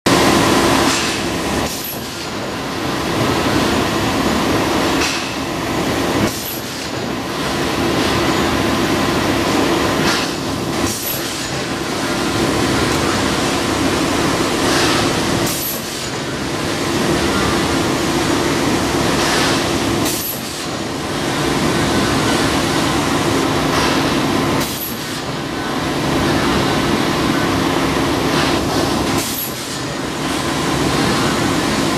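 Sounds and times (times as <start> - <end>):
loud machinery hum: 0.0 - 31.9.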